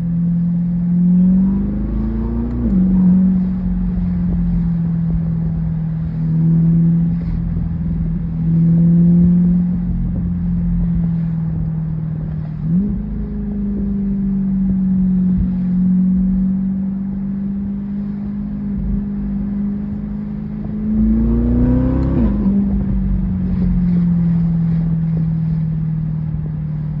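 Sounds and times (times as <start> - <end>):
sports car engine revving: 0.0 - 27.0.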